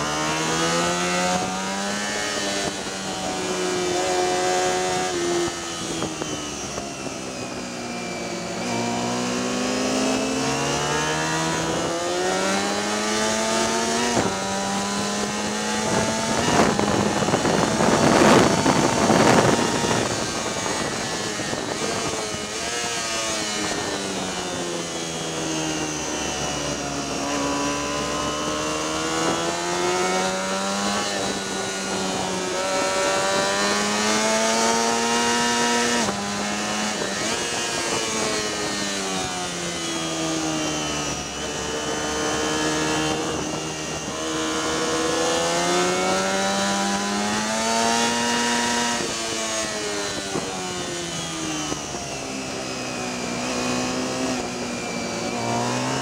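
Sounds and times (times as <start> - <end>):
motorcycle engine at racing speed: 0.0 - 56.0.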